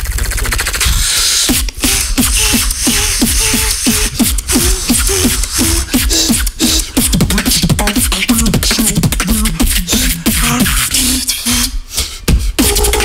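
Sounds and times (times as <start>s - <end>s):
beatbox drum beat: 0.0s - 13.0s
sliding vocal bass: 0.8s - 13.0s.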